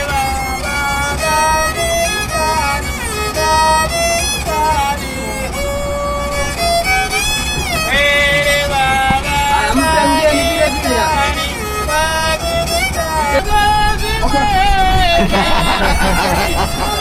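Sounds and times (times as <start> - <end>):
melody of held and sliding notes: 0.0 - 17.0
steady low rumble: 0.0 - 17.0.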